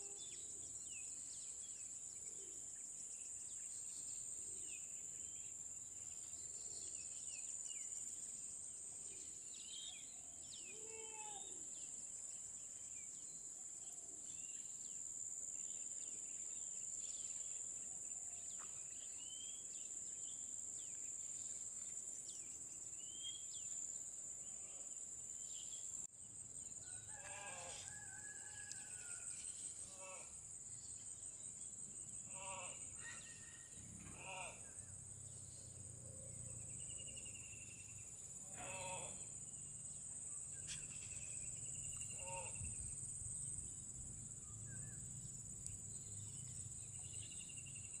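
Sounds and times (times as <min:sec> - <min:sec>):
high insect drone: 0:00.0 - 0:48.0.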